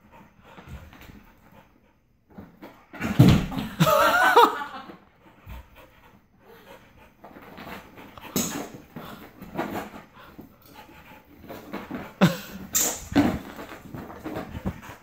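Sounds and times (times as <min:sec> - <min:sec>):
dog breathing hard: 0:00.0 - 0:02.2, 0:05.2 - 0:15.0.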